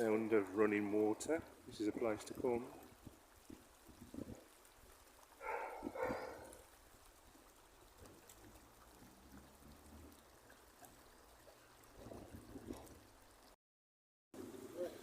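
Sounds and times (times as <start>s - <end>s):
water trickling and pouring: 0.0s - 13.6s.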